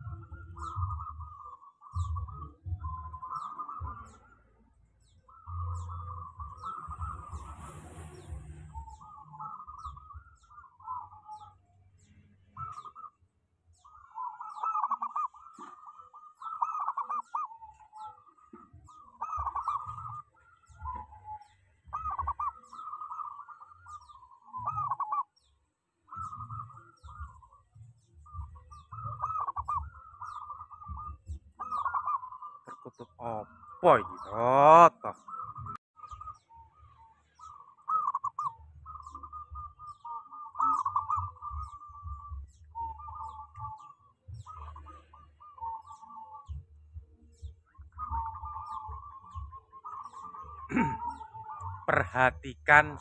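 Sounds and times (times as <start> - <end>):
dove cooing: 0.0 - 11.6, 12.4 - 25.5, 26.1 - 53.0.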